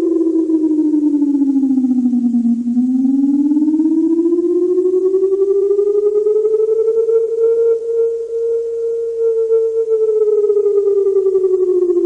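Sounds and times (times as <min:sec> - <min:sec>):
emergency alarm tone: 0:00.0 - 0:12.0.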